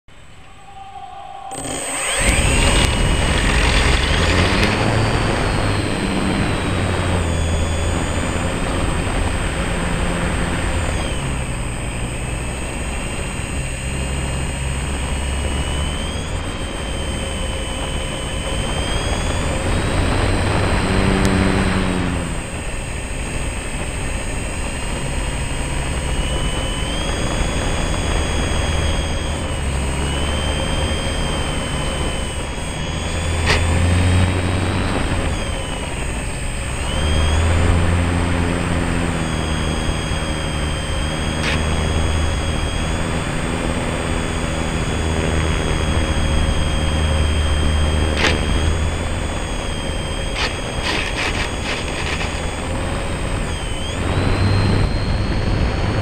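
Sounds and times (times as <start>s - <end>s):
propeller and air noise: 0.0s - 56.0s
electric motor whining: 0.1s - 56.0s.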